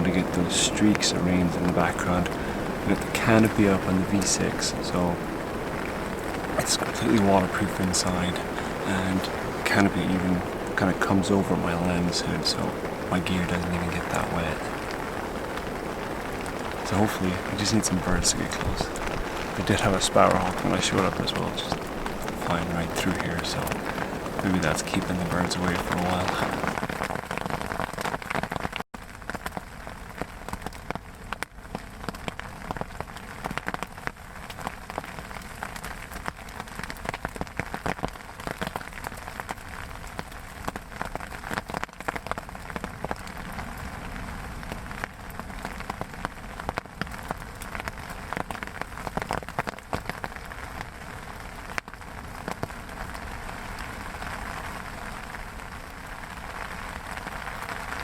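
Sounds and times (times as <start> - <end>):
raindrops ticking close by: 0.0 - 58.0
steady rain hiss: 0.0 - 58.0.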